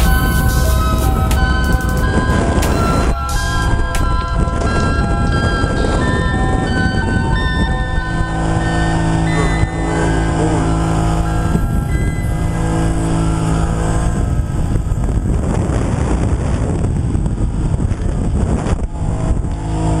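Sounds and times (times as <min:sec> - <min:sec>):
motorboat engine drone: 0:00.0 - 0:20.0
wind rushing over microphone: 0:00.0 - 0:20.0.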